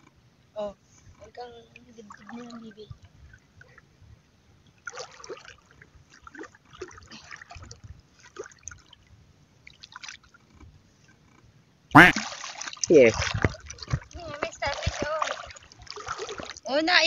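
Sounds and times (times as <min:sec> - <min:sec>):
water splashes and gurgles: 0:01.2 - 0:03.9, 0:04.7 - 0:11.3, 0:12.0 - 0:17.0
sea water sloshing: 0:01.7 - 0:04.0, 0:04.7 - 0:11.3, 0:12.0 - 0:17.0.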